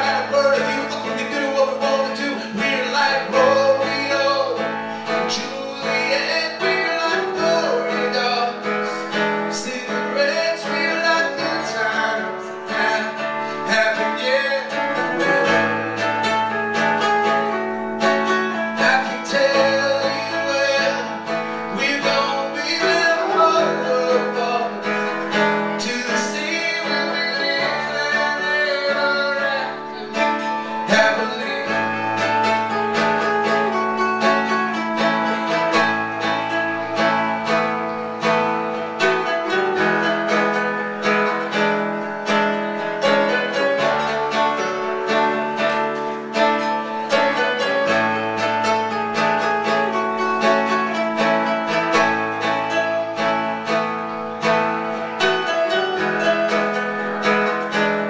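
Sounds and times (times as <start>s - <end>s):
acoustic guitar picking: 0.0s - 58.0s
man singing: 0.0s - 58.0s.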